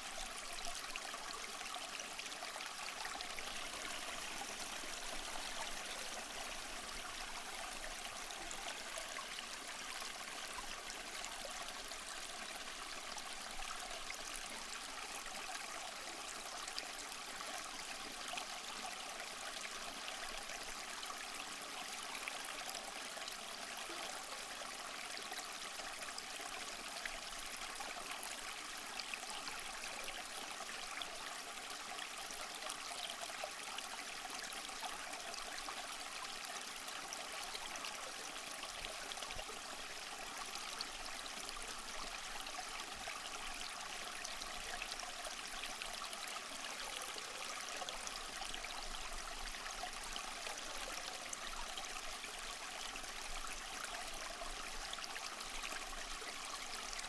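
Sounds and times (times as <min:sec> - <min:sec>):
small waterfall splashing over rocks: 0:00.0 - 0:57.0.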